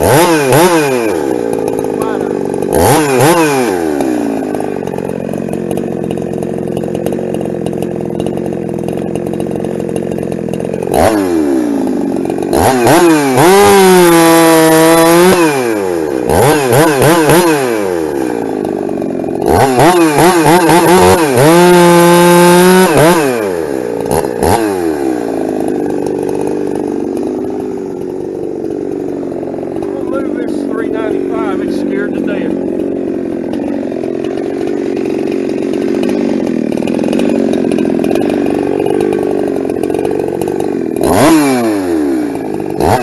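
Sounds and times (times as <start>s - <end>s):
chainsaw revving and idling: 0.0s - 43.0s.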